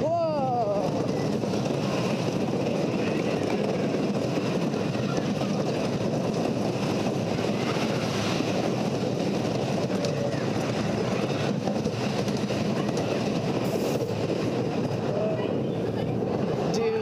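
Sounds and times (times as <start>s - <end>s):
roller coaster train rumbling on track: 0.0s - 17.0s.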